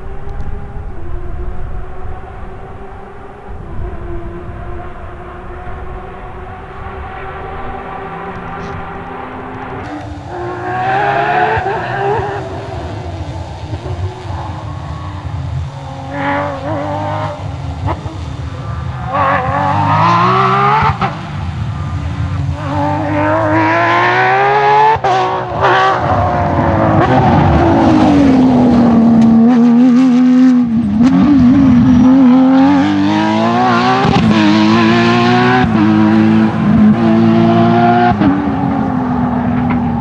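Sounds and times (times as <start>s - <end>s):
rally car engine revving hard: 2.1s - 40.0s.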